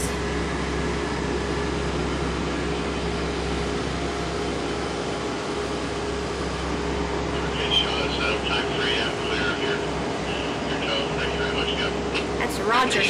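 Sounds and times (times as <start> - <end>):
boat engines humming: 0.0 - 13.0.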